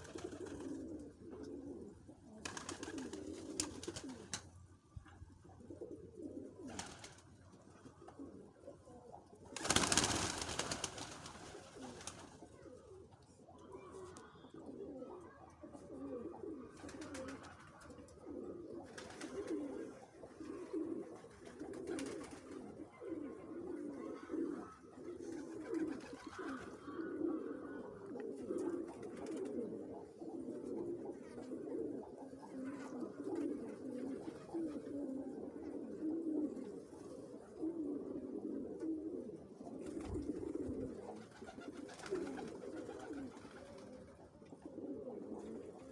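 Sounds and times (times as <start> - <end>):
turtle doves cooing: 0.0 - 45.9.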